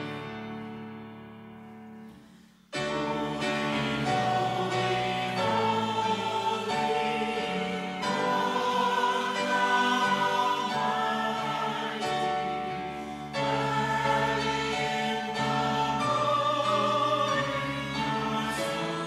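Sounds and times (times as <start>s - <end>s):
mixed choir singing: 2.8s - 19.0s.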